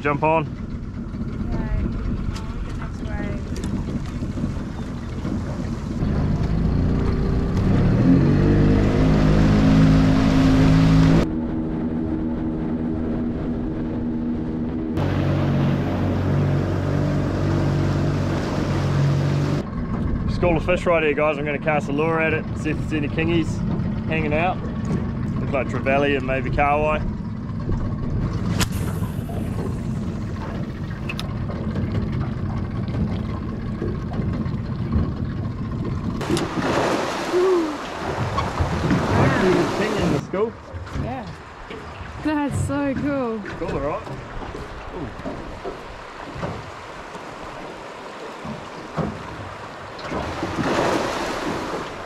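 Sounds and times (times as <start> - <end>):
outboard motor running: 0.0 - 52.0
rush of wind and water: 0.0 - 52.0.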